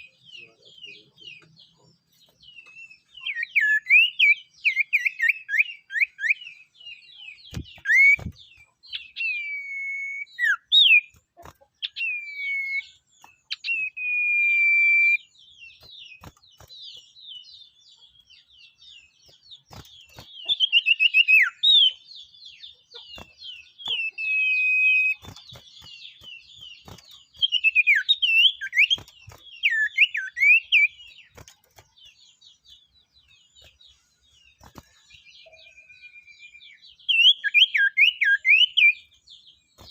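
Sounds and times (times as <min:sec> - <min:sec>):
songbird whistled song: 0:00.0 - 0:39.9.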